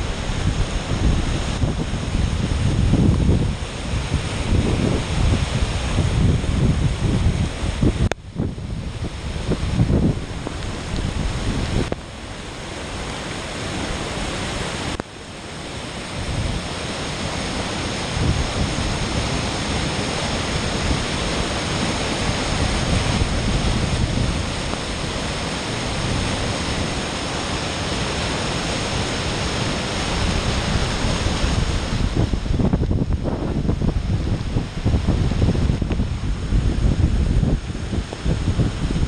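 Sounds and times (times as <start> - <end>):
wind buffeting microphone: 0.0 - 12.5, 15.8 - 39.0
flooded river rushing: 0.0 - 39.0.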